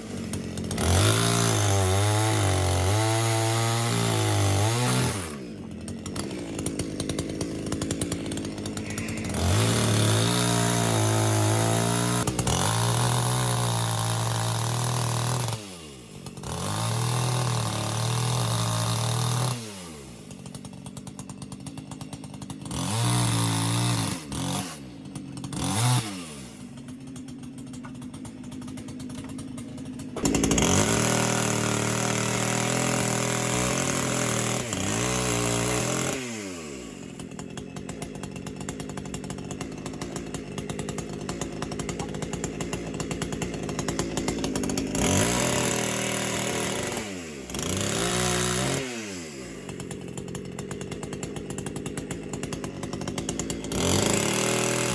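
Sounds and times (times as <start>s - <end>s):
chainsaw engine idling and revving: 0.0s - 54.9s.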